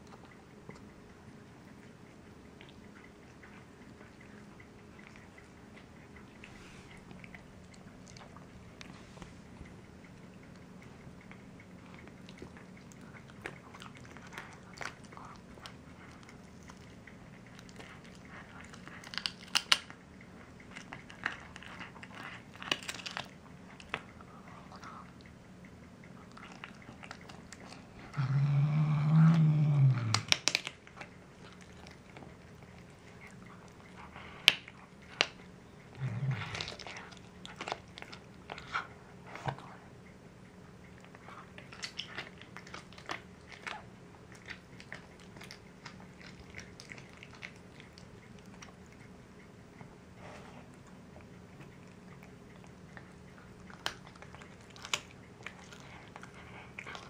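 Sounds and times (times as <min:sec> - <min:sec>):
cat chewing meat: 0:00.0 - 0:57.0.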